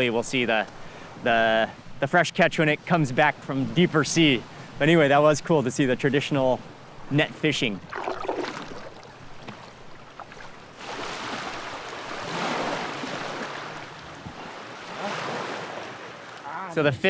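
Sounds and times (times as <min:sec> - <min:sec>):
sea waves washing in: 0:02.6 - 0:16.5.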